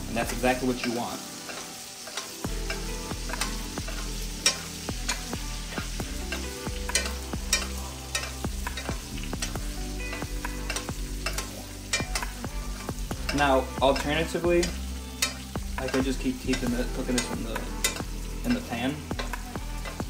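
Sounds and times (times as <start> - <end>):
steak sizzling in a pan: 0.0 - 20.0.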